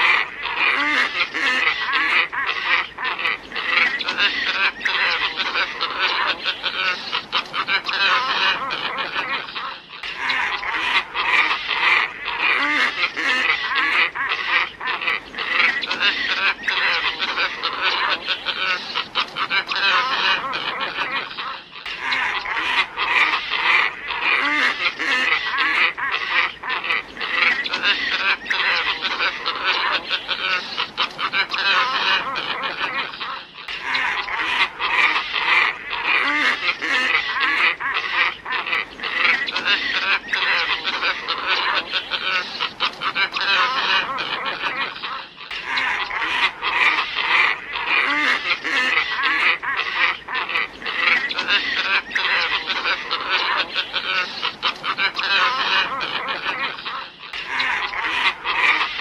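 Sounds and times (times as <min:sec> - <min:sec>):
chorus of ibises calling: 0:00.0 - 0:59.0.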